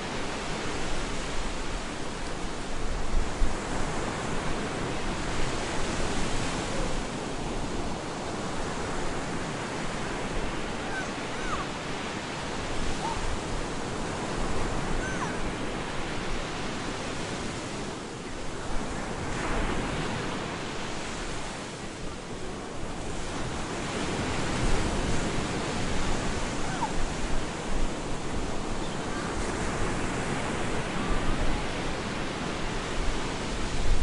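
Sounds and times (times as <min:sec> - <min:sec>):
waves breaking on a beach: 0:00.0 - 0:34.0.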